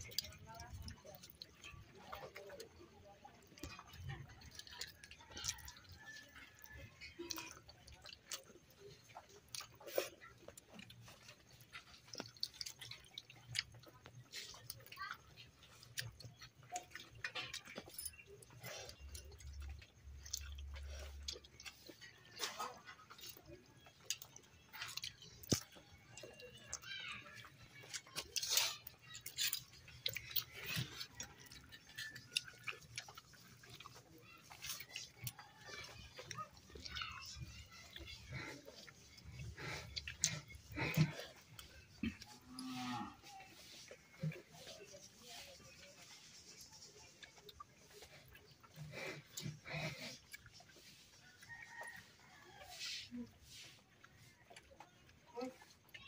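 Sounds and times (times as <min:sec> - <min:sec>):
person chewing and lip-smacking: 0:00.0 - 0:42.7, 0:43.3 - 0:56.0.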